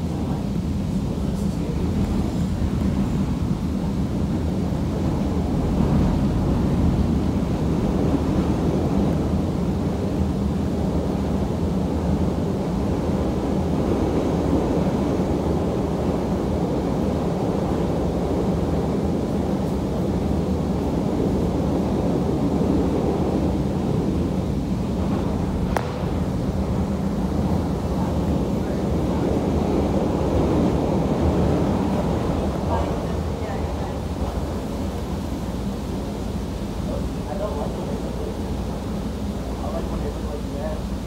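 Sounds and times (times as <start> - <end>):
train interior low rumble: 0.0 - 41.0.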